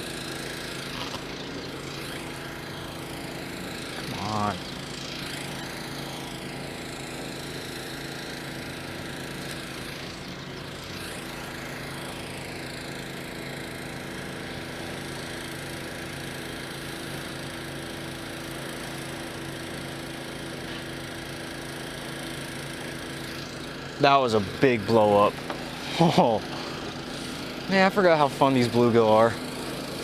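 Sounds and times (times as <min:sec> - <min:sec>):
small gasoline engine running: 0:00.0 - 0:30.0.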